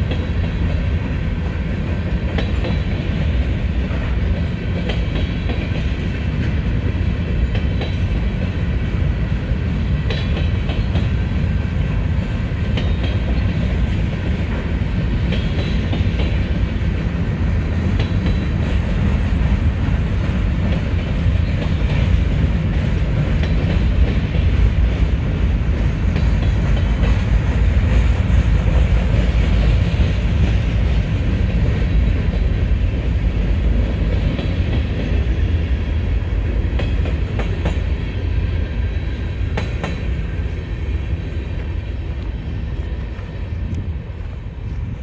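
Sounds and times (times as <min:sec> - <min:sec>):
freight train rumbling past: 0:00.0 - 0:45.0
steel wheels on rails: 0:00.0 - 0:45.0.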